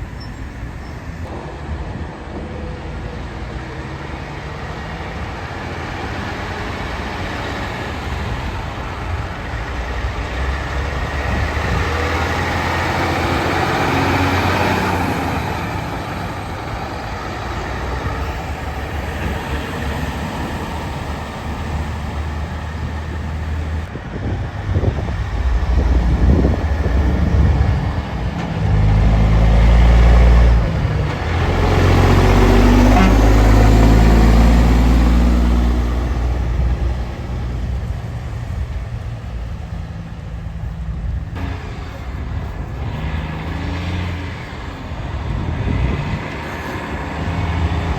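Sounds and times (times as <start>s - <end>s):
heavy trucks driving past: 0.0s - 47.9s.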